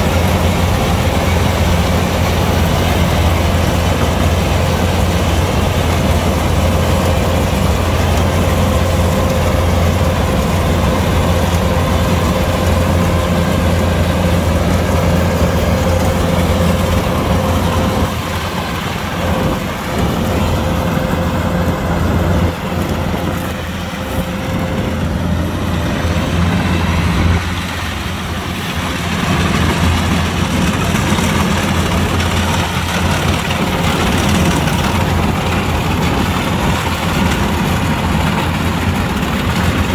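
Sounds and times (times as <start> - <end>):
diesel engine hum: 0.0 - 39.9
machine whine: 0.0 - 39.9.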